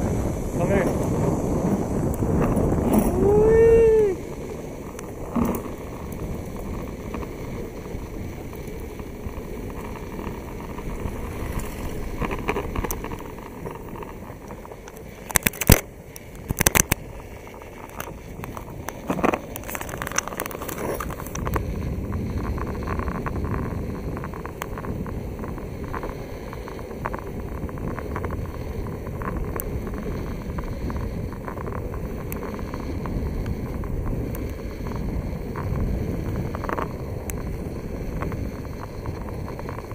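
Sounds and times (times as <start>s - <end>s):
skateboard wheels rumbling on pavement: 0.0s - 39.9s
wind on microphone: 0.0s - 39.9s.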